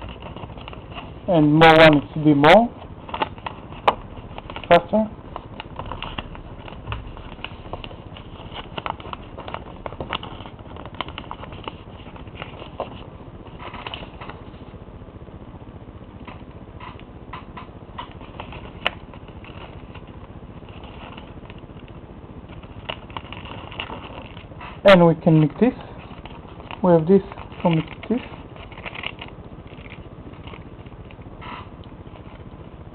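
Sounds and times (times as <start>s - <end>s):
paper folding and creasing: 0.0s - 1.8s, 3.0s - 14.6s, 18.0s - 32.8s.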